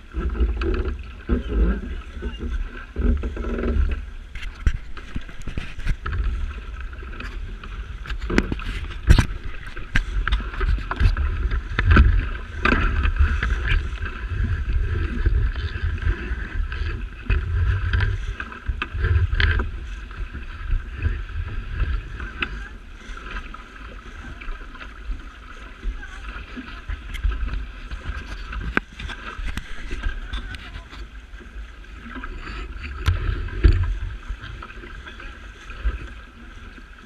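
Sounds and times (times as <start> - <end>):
wind buffeting microphone: 0.0 - 36.3
water rushing along hull: 0.0 - 37.0
waves slapping hull: 0.0 - 37.0.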